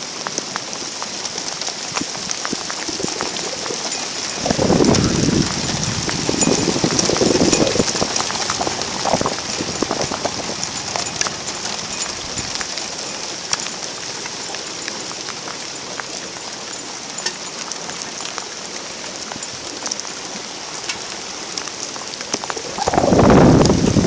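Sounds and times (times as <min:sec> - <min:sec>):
hail falling: 0:00.0 - 0:24.0
hailstones ticking: 0:00.0 - 0:24.0.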